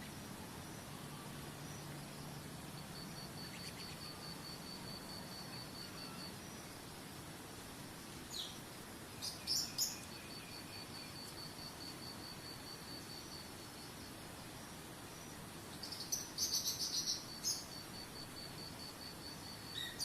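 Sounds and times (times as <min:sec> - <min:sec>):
songbirds chirping: 0:00.0 - 0:20.0
pulsing insect-like trill: 0:00.6 - 0:06.9, 0:09.2 - 0:20.0.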